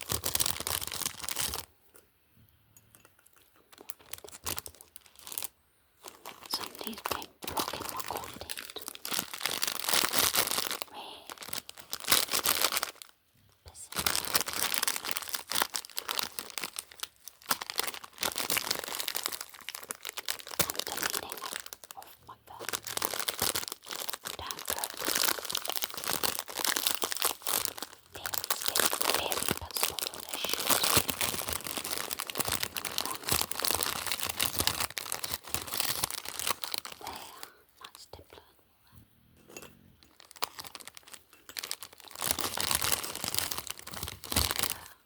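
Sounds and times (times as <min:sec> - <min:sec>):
packaging crinkling and tearing: 0:00.0 - 0:01.7, 0:03.7 - 0:38.5, 0:40.0 - 0:45.0.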